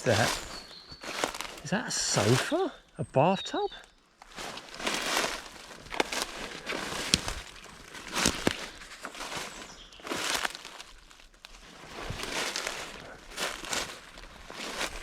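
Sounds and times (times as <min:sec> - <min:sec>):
twigs snapping: 0:00.0 - 0:02.4, 0:04.2 - 0:15.0
footsteps through leaves and brush: 0:00.0 - 0:02.9, 0:03.6 - 0:15.0.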